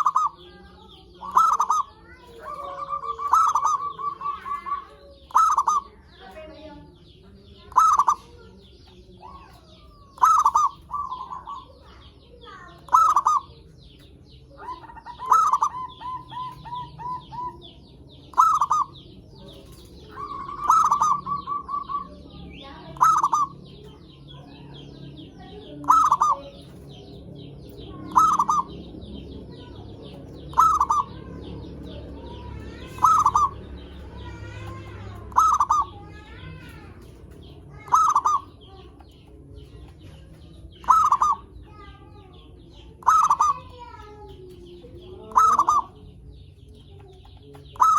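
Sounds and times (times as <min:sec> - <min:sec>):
dove cooing: 0:00.0 - 0:41.9, 0:42.7 - 0:46.1, 0:47.0 - 0:47.9
small birds chirping: 0:00.0 - 0:47.9.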